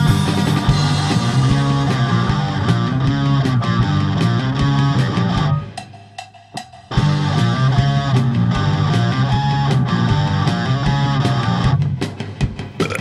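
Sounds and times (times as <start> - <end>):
instrumental rock song: 0.0 - 13.0.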